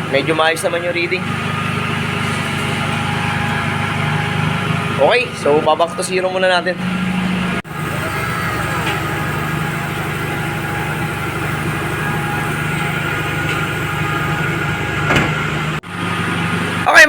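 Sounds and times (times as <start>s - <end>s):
air conditioning running: 0.0s - 17.0s
car engine idling: 0.0s - 17.0s.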